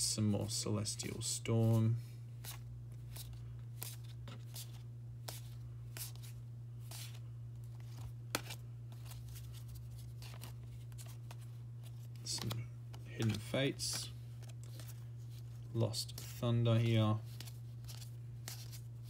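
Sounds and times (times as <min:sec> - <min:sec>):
steady low hum: 0:00.0 - 0:19.0
cards clicking and swishing: 0:02.4 - 0:19.0.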